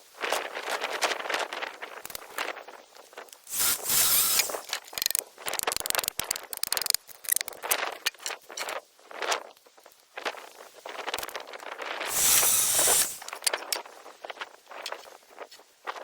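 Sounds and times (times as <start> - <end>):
small clicks and crackles: 0.2 - 16.0.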